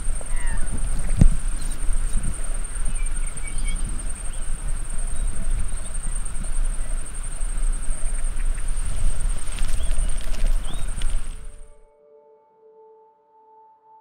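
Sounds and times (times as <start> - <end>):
high-pitched insect trill: 0.0 - 11.8
wind rumble on microphone: 0.0 - 11.8
faint bird chirps: 0.0 - 11.9.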